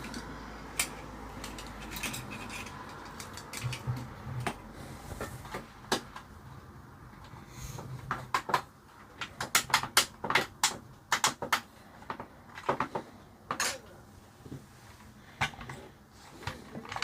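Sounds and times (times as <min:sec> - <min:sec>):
small hard parts clicking: 0:00.0 - 0:06.3, 0:07.1 - 0:13.9, 0:15.4 - 0:17.0.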